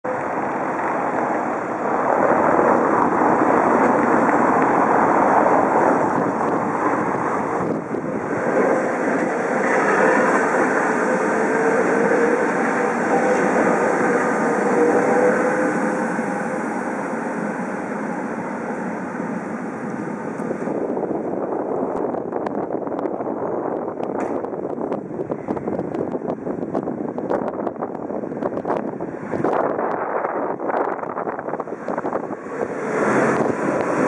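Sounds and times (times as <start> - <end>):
tram wheels rolling on rails: 0.0 - 34.0
wavering whine: 0.1 - 34.0.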